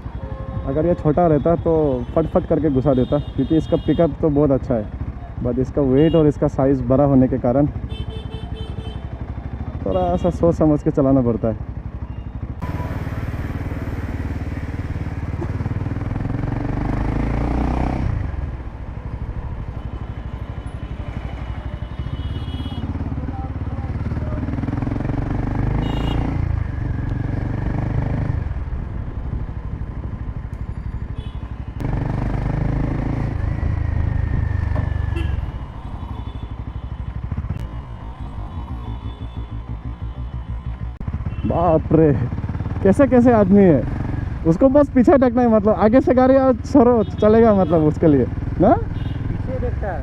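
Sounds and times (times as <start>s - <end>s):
motorcycle engine running: 3.0s - 50.0s.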